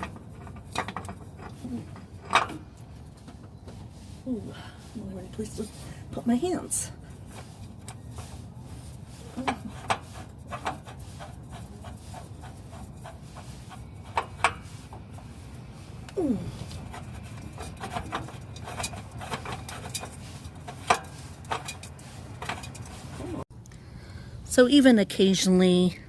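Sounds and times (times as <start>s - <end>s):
hands and metal clicking: 0.0s - 4.0s, 5.4s - 23.4s.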